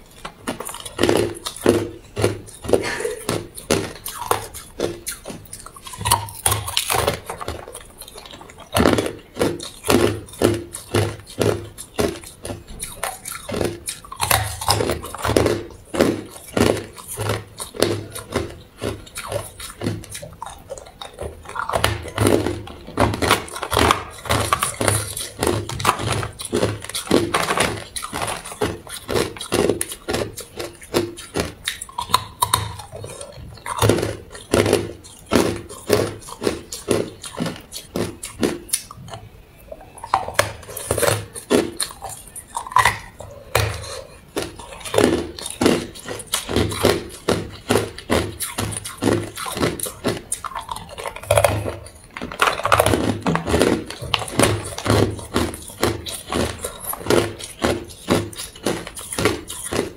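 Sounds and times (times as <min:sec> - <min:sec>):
ice cubes crunched in mouth: 0:00.0 - 0:39.1, 0:39.9 - 0:59.9.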